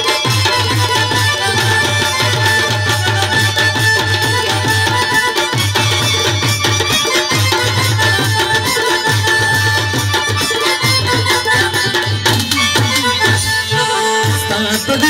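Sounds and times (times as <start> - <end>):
harmonium notes: 0.0 - 15.0
tabla strokes: 0.0 - 15.0.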